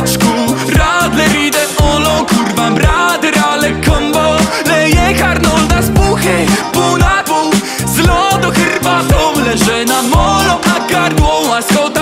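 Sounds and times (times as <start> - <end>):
deep bass line: 0.0 - 7.2, 7.8 - 11.4.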